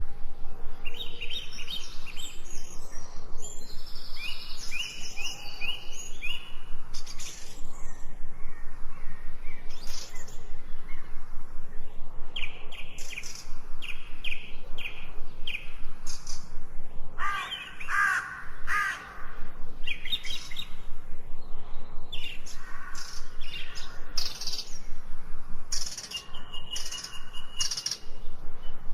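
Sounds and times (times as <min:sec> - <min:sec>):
birds singing and chirping: 0:00.0 - 0:28.9.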